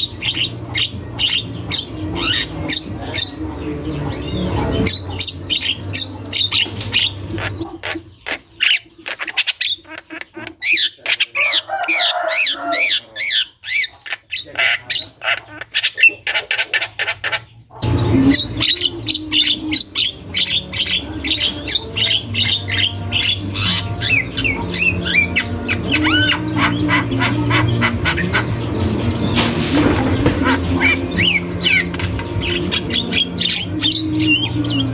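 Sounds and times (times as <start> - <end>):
bird squawking and whistling: 0.0 - 3.4, 4.1 - 34.9.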